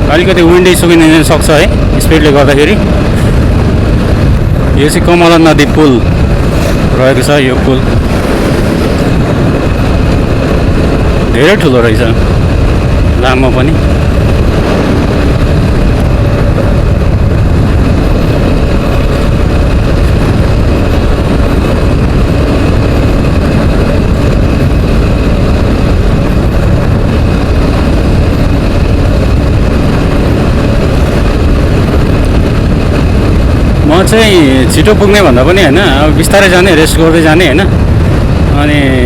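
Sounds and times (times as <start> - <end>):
wind rushing over microphone: 0.0 - 39.0
motorcycle engine running: 5.6 - 39.0.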